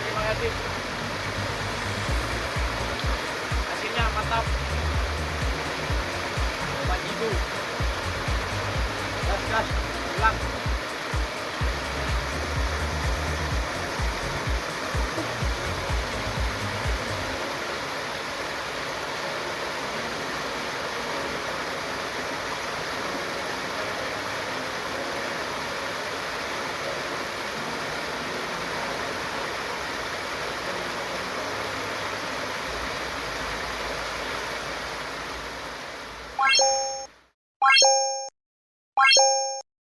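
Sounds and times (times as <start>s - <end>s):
flowing stream water: 0.0s - 38.0s.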